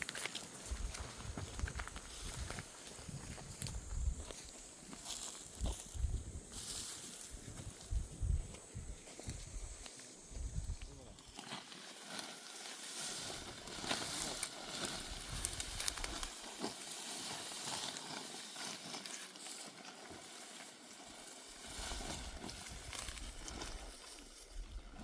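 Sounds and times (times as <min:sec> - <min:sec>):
dry stalks rustling and crackling: 0:00.0 - 0:25.0.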